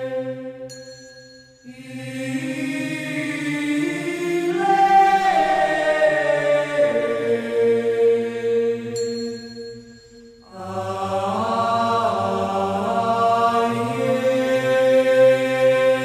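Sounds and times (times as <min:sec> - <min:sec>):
vocal group singing in harmony: 0:00.0 - 0:00.8, 0:01.6 - 0:16.0.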